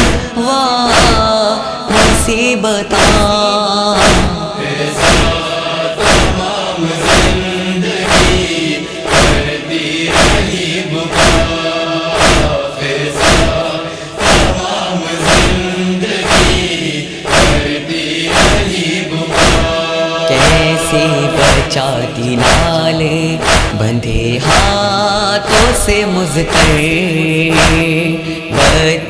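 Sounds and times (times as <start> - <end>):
chorus chanting drone: 0.0 - 29.0
rhythmic chest-beating thumps: 0.0 - 29.0.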